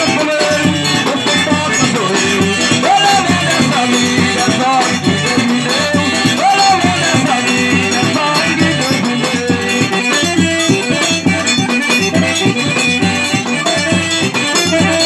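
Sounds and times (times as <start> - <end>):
accordion playing chords: 0.0 - 15.0
steady percussion beat: 0.0 - 15.0.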